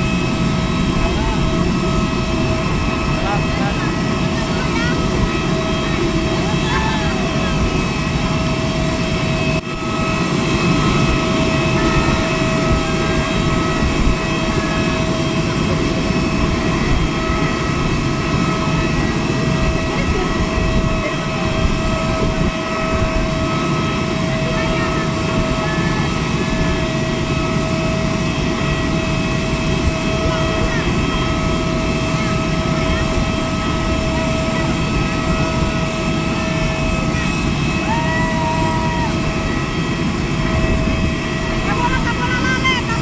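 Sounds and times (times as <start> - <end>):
jet airliner engine rumble and whine: 0.0 - 43.0.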